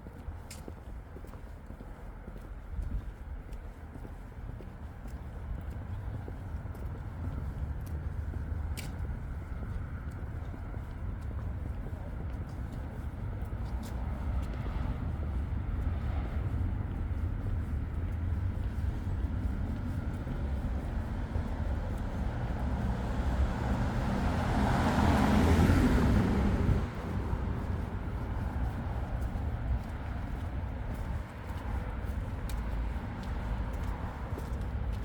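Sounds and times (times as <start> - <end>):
low traffic rumble: 0.1 - 35.0.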